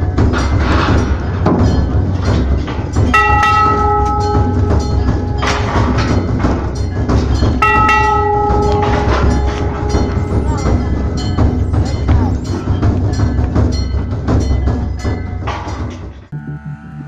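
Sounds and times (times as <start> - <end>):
rapid clatter of percussive knocks: 0.0 - 16.3
temple bell ringing: 0.0 - 16.4.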